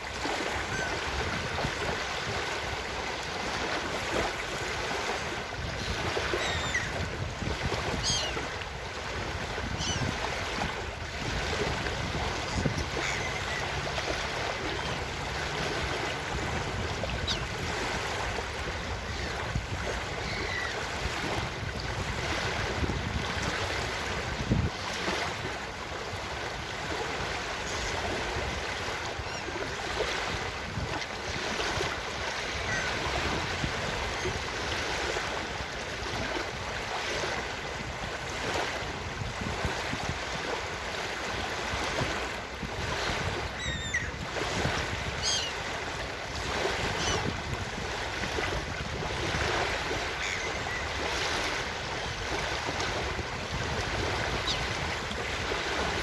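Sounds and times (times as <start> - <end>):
ocean surf on beach: 0.0 - 56.0
wind on microphone: 0.0 - 56.0.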